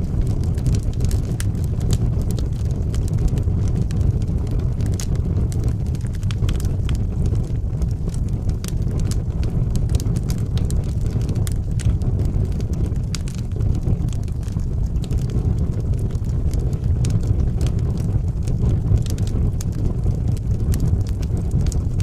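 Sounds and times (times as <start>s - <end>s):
wood fire burning: 0.0s - 22.0s.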